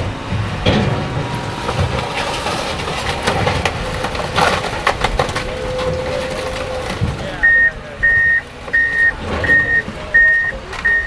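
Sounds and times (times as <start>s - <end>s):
debris clanking and crunching: 0.0s - 11.0s
diesel engine running: 0.0s - 11.0s.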